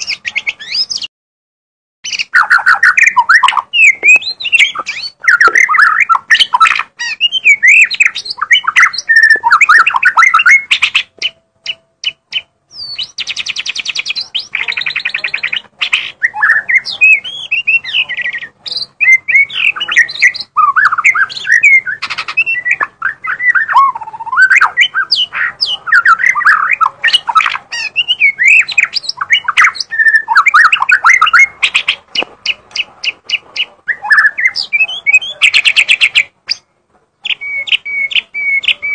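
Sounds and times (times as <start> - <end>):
songbird singing whistled phrases: 0.0 - 1.1, 2.0 - 38.9.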